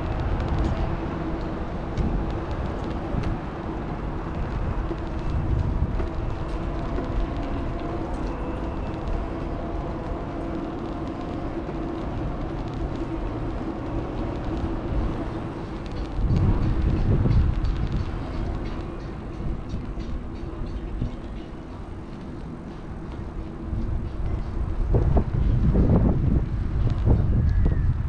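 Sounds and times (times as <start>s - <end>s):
light rattling ticks: 0.0s - 27.8s
rumble of bike wheels and air: 0.0s - 28.0s.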